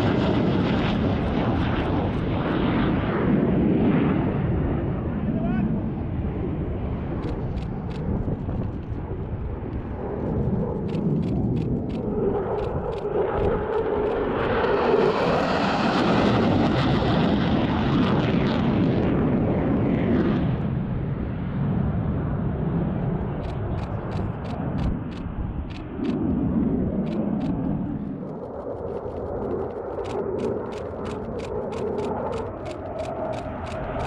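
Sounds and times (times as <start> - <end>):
jet flying past: 0.0 - 34.0.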